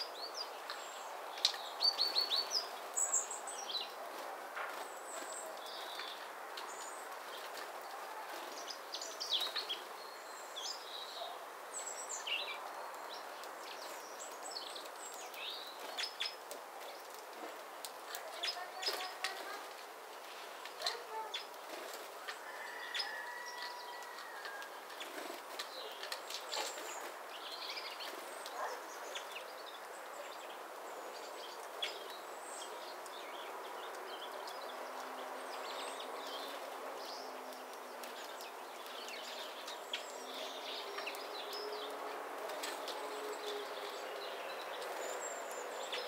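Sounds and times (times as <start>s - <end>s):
outdoor background noise: 0.0s - 46.0s
songbirds chirping: 0.0s - 46.0s.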